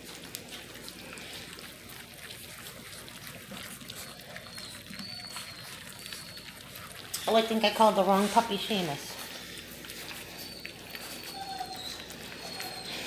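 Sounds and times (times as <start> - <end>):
puppies lapping from metal bowl: 0.0 - 13.0.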